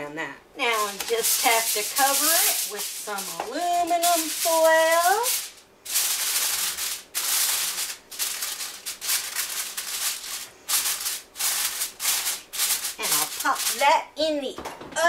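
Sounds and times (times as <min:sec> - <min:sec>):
aluminium foil crinkling: 0:00.6 - 0:14.0.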